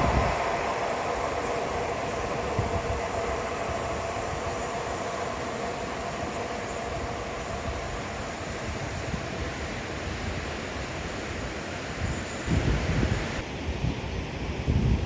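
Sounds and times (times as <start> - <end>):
train rumbling past: 0.0 - 14.6
faint train whine: 0.0 - 14.7
wind buffeting microphone: 0.0 - 15.0.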